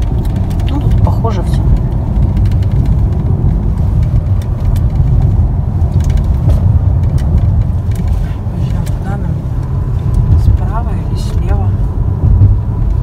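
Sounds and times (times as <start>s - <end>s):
car engine: 0.0s - 13.0s.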